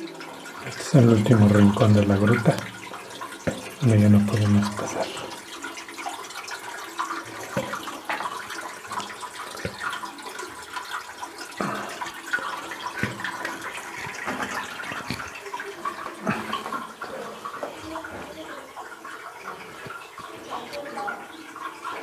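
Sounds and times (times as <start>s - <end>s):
water drips: 0.0s - 22.0s
water trickling in a cave: 0.0s - 22.0s.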